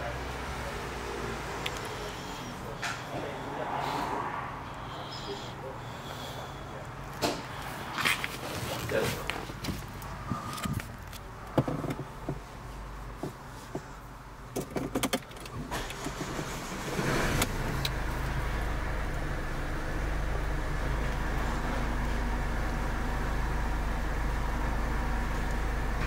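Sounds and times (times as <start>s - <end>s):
car engine cranking and idling: 0.0s - 26.0s.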